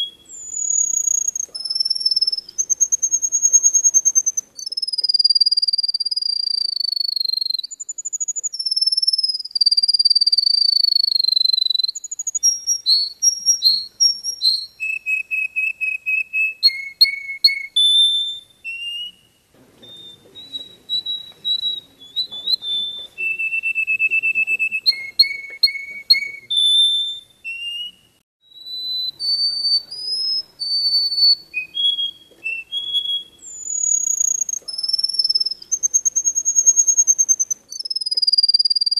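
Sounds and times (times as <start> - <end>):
finch singing: 0.0 - 38.9.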